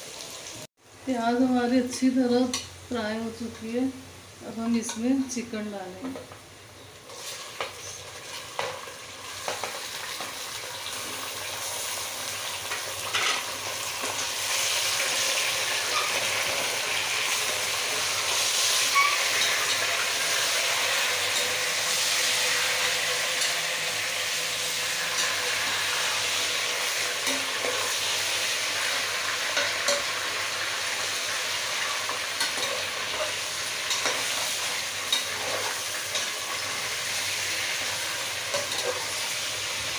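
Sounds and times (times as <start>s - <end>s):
chicken frying in hot oil: 0.0s - 0.7s, 6.7s - 39.9s.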